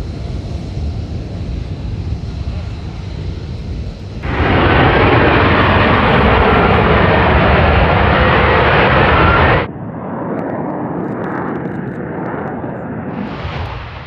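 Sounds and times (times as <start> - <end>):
jet engine roar with whine: 0.0 - 14.0.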